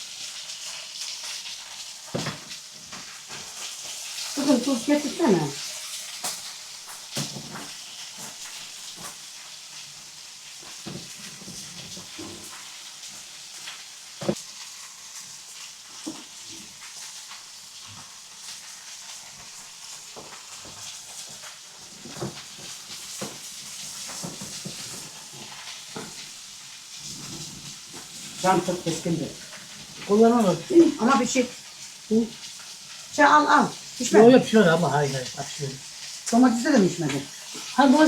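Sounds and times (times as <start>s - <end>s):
meat sizzling: 0.0s - 38.0s.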